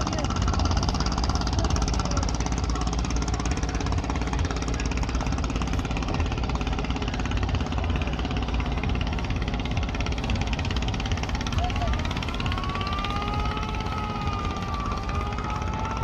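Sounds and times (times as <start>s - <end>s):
engine running with even knocking: 0.0s - 16.0s.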